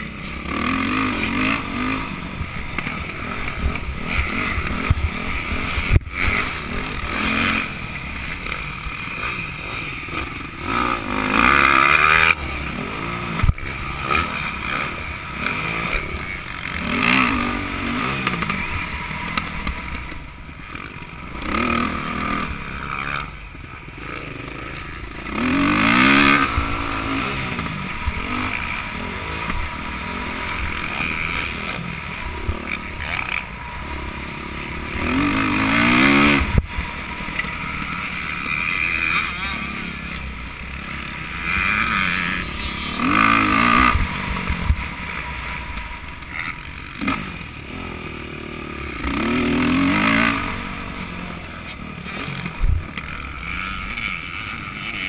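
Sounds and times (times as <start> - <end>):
dirt bike engine revving: 0.0 - 55.0
wind and track noise: 0.0 - 55.0.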